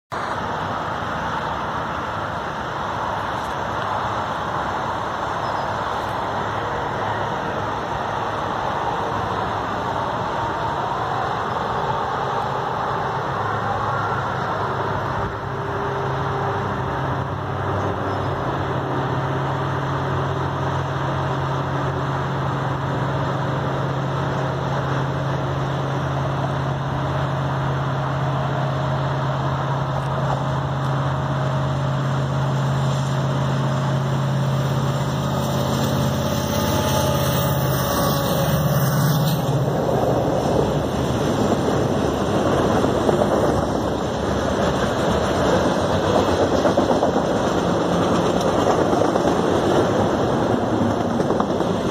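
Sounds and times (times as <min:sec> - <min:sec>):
diesel locomotive drone: 0:00.0 - 0:51.9
highway traffic rumble: 0:00.0 - 0:51.9
freight cars rolling past: 0:00.1 - 0:51.9.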